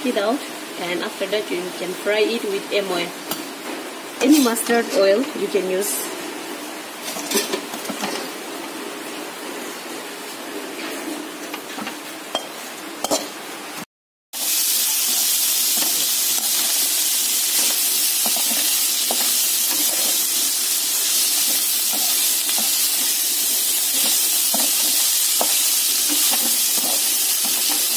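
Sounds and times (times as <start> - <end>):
food sizzling in oil: 0.1 - 10.2, 14.4 - 27.9.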